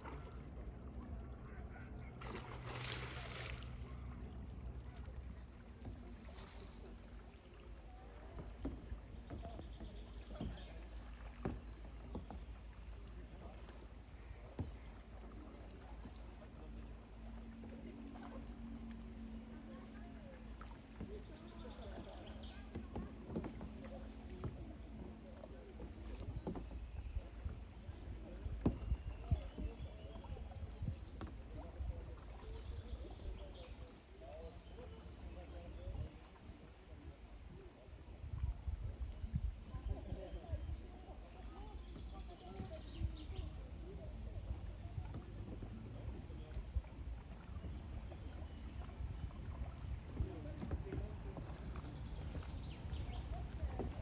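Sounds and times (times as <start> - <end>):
faint distant voices: 0.0 - 54.0.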